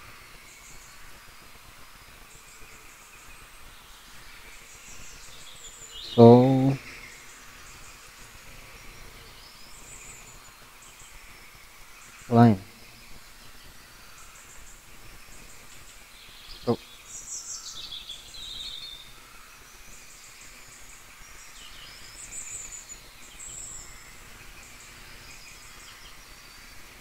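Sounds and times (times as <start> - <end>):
birds chirping faintly: 0.0 - 27.0.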